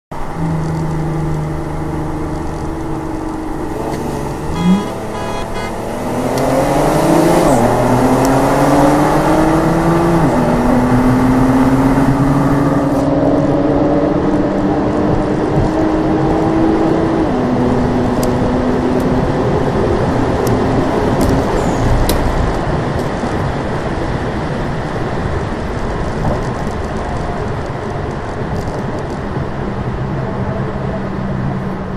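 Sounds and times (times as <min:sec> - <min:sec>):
car engine at full throttle: 0:00.1 - 0:31.9.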